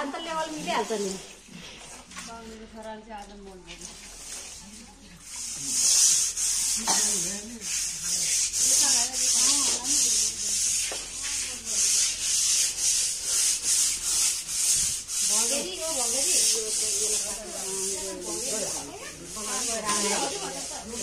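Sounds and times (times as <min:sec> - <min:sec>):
brush scrubbing floor: 0:00.0 - 0:02.5, 0:03.6 - 0:21.0.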